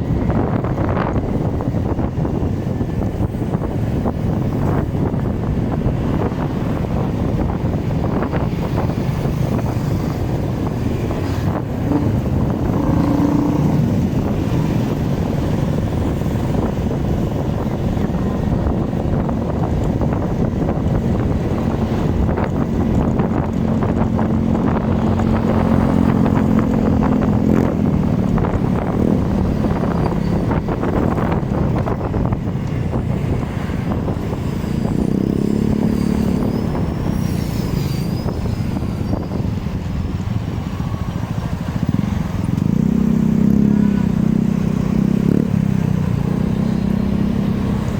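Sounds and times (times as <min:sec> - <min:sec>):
motorcycle engine and road rumble: 0:00.0 - 0:47.9
surrounding traffic engines: 0:00.0 - 0:47.9
wind buffeting microphone: 0:00.0 - 0:47.9.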